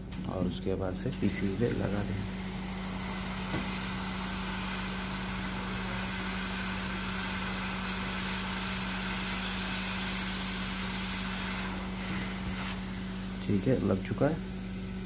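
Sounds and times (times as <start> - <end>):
hot air blowing with hum: 0.0 - 15.0.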